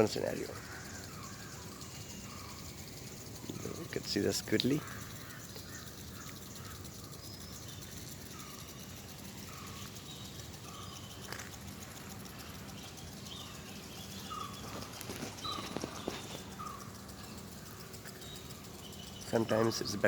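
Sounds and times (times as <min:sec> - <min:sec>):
bird calls: 0:00.0 - 0:20.0
high bird chirps: 0:00.0 - 0:20.0.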